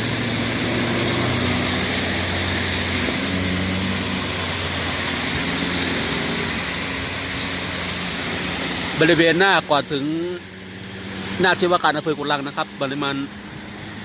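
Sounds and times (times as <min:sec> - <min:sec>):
road and wind noise: 0:00.0 - 0:14.0
vehicle engine running: 0:00.0 - 0:14.0.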